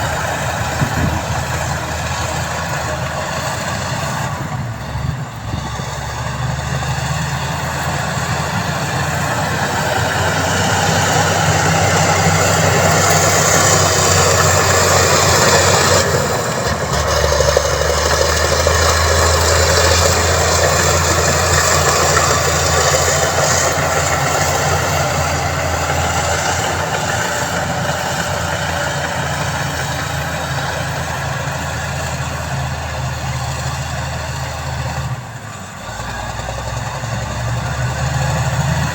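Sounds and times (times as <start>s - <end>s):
heavy vehicle engine rumbling: 0.0s - 38.9s.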